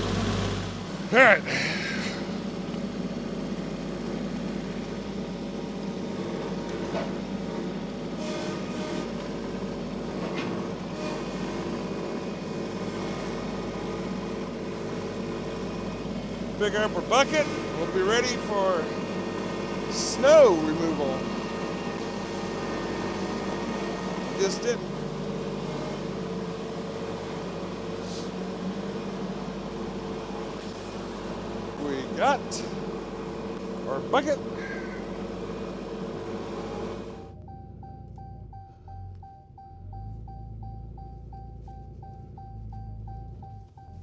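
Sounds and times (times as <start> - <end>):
tractor engine running: 0.0 - 8.2, 9.0 - 44.0.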